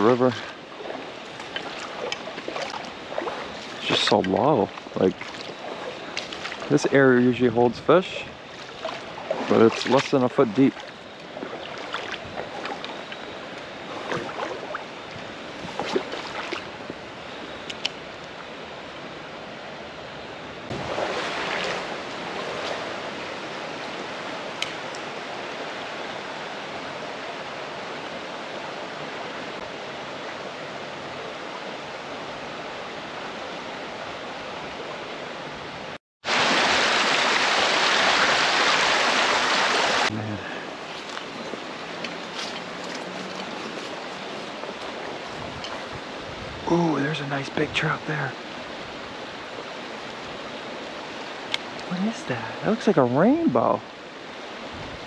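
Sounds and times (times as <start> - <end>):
creek water running over rocks: 0.0 - 19.9, 20.6 - 35.4, 36.2 - 55.0.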